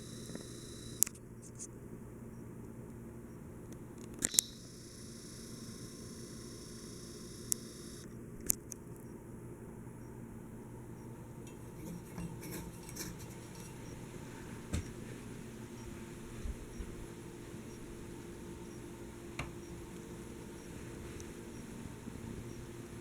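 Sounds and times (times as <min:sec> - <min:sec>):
ceiling fan motor hum: 0:00.0 - 0:23.0.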